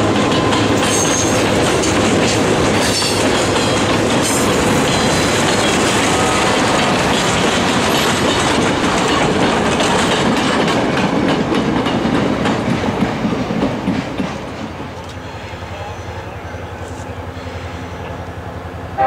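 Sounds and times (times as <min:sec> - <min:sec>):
railroad car wheels clattering: 0:00.0 - 0:19.0.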